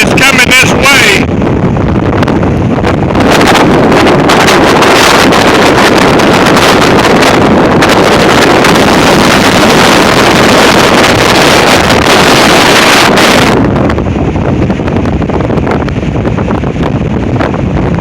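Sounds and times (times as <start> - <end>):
wind gusts buffeting microphone: 0.0 - 18.0.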